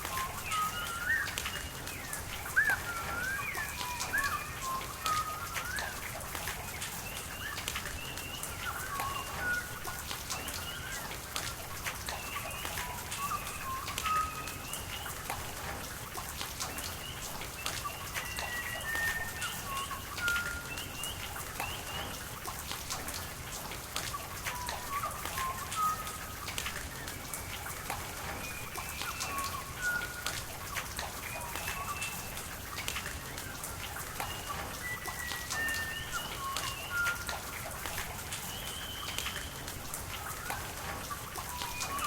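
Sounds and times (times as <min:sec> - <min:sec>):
rain falling: 0:00.0 - 0:42.0
running water hiss: 0:00.0 - 0:42.0
sharp drips: 0:00.0 - 0:42.0.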